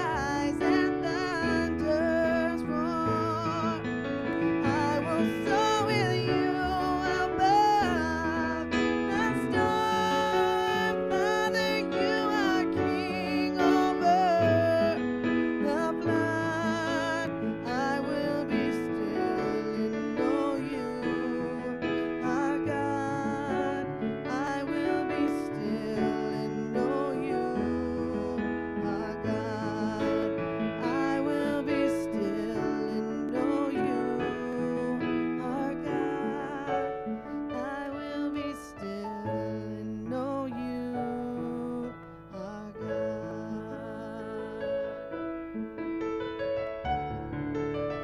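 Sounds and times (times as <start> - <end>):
woman singing: 0.0 - 45.1
piano chords and bass line: 0.0 - 48.0.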